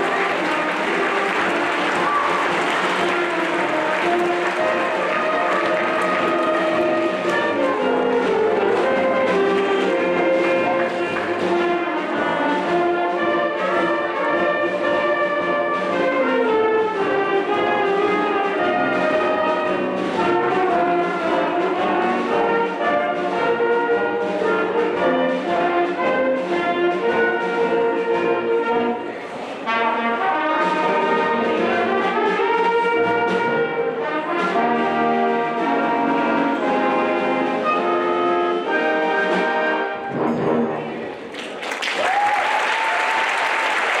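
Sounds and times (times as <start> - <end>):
band with brass chords: 0.0 - 41.4.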